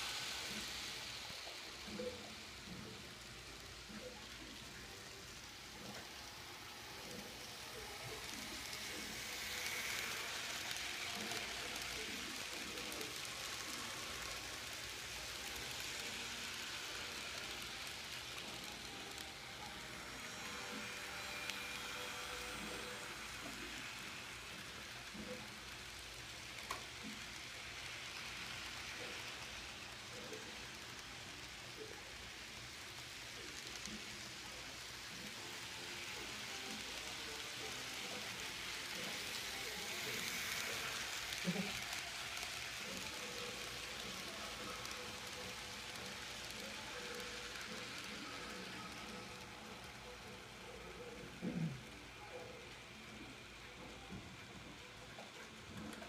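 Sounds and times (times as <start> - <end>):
model train wheels rattling on track: 0.0 - 56.0.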